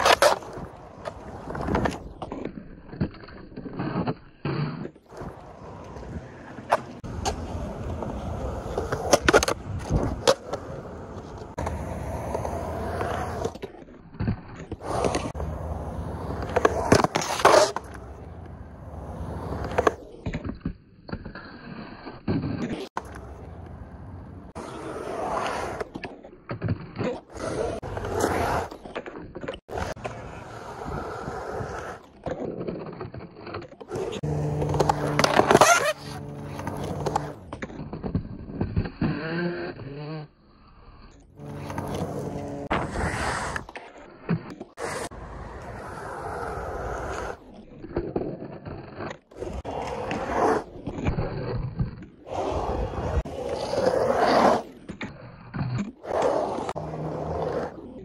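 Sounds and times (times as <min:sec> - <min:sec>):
skateboard scraping: 0:00.0 - 0:58.0
skateboard wheels rolling on concrete: 0:00.0 - 0:58.0.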